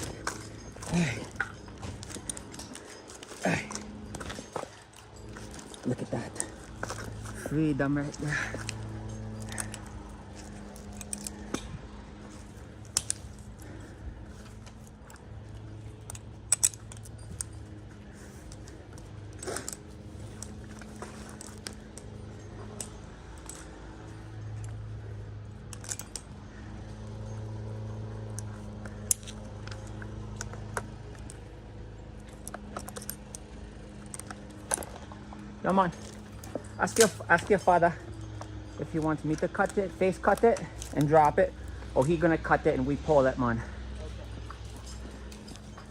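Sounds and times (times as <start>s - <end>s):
low steady hum: 0.0s - 45.9s
metal climbing hardware clinking: 0.0s - 45.9s.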